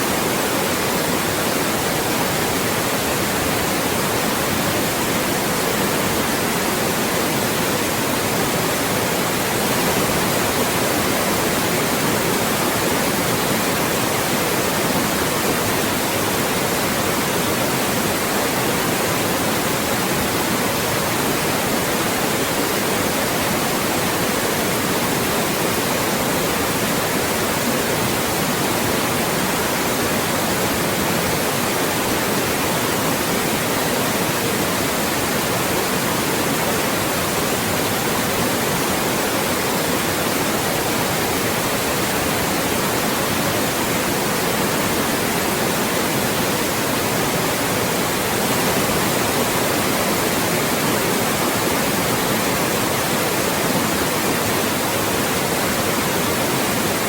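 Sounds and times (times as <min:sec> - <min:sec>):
synthetic white noise hiss: 0:00.0 - 0:57.0.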